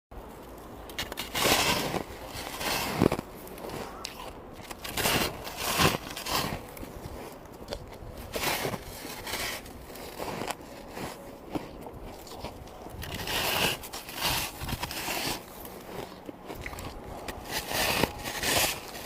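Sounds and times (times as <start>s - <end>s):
person crunching ice: 0.8s - 19.0s.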